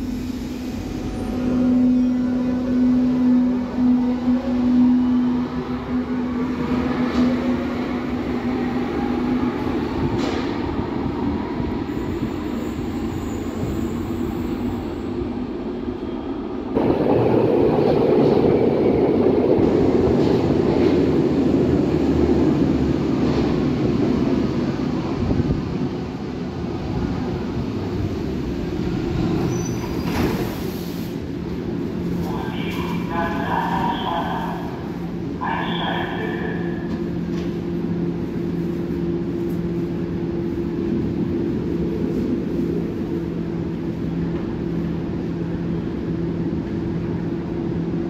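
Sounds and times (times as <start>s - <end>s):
train rolling in: 0.0s - 48.0s.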